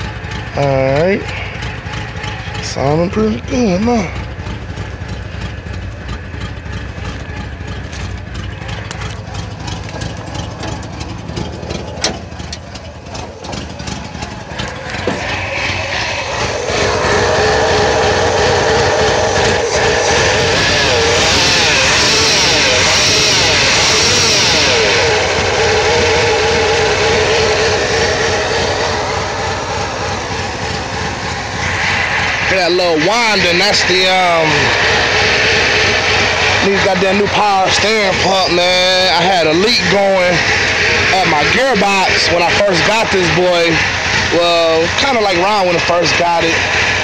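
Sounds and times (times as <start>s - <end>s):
car engine idling: 0.0s - 47.0s
steady whine: 0.0s - 47.0s.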